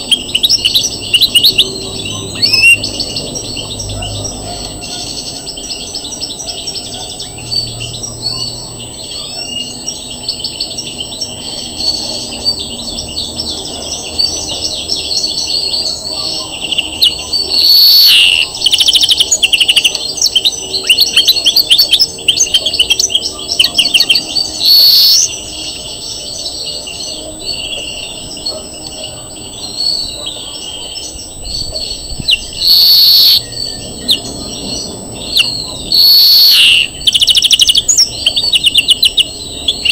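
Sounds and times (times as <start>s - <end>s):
finch singing twittering trills: 0.0s - 39.9s
loud drawn-out bird notes: 0.0s - 39.9s.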